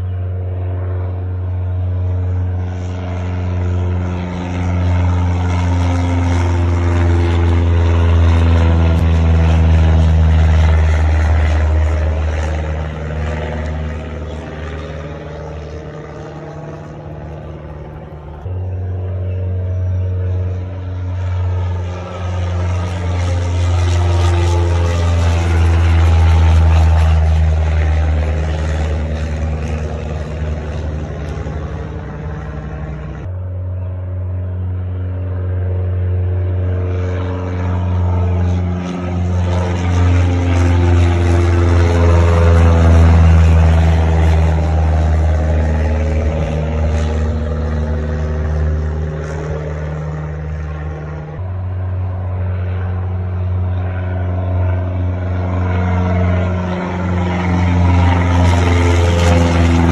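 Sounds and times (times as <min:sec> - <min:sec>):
propeller plane droning overhead: 0:00.0 - 0:59.9.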